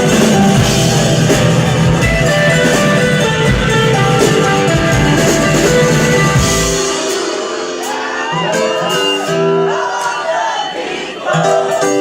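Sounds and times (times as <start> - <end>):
crowd shouting and singing: 0.0 - 12.0
live rock band playing: 0.0 - 12.0.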